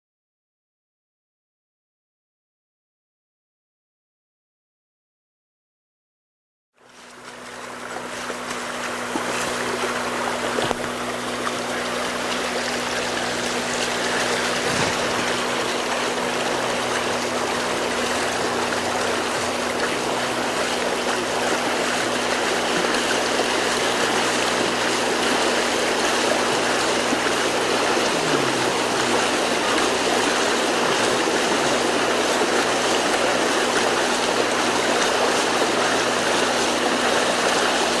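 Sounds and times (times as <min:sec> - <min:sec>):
shallow water rushing: 0:06.8 - 0:38.0.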